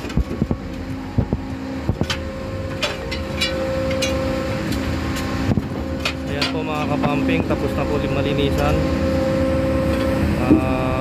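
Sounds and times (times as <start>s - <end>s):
concrete pump truck running: 0.0s - 11.0s.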